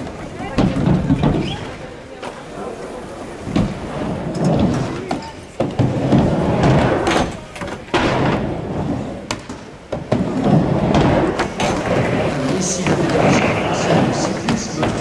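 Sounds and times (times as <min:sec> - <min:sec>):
skateboard wheels rumbling: 0:00.0 - 0:15.0
skateboards clacking: 0:00.0 - 0:15.0.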